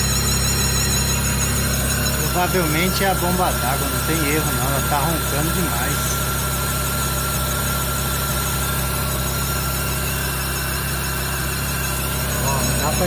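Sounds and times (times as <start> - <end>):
car engine idling: 0.0 - 13.0
water pump whine: 0.0 - 13.0.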